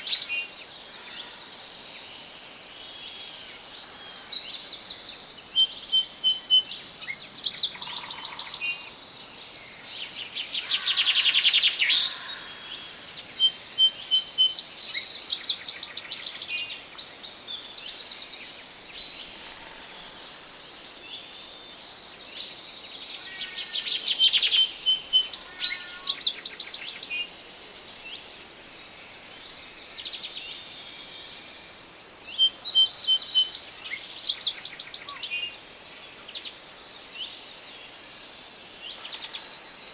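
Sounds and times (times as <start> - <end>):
faint background hiss: 0.0 - 39.9
forest birds singing: 0.0 - 39.9.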